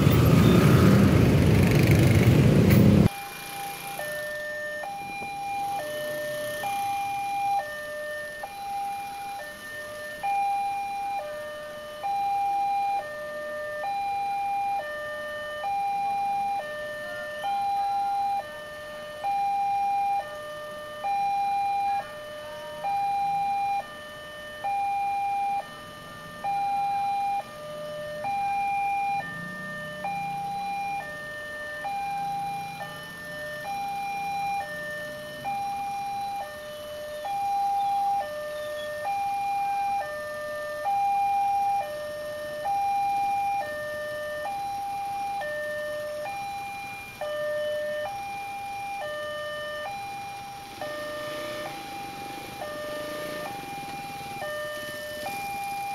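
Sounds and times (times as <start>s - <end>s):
two-tone crossing alarm: 0.0s - 1.2s, 2.8s - 55.9s.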